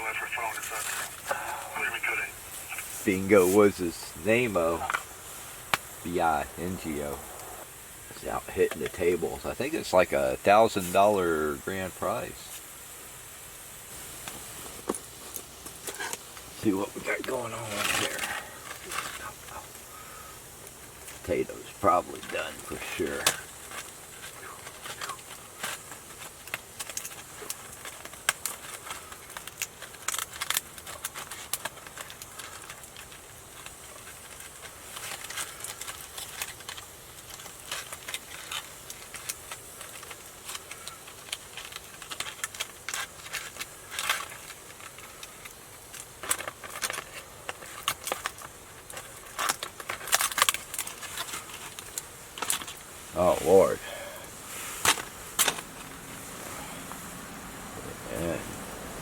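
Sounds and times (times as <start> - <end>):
potatoes frying in a pan: 2.9 - 59.0.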